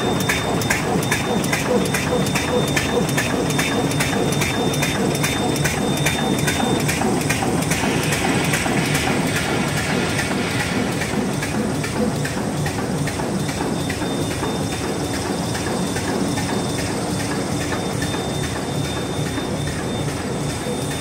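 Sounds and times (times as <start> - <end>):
machine clattering rhythmically: 0.0 - 21.0.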